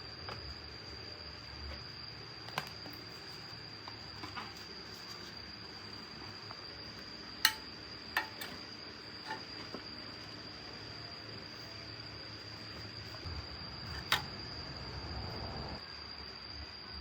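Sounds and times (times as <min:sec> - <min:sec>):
high thin whine and hiss: 0:00.0 - 0:17.0.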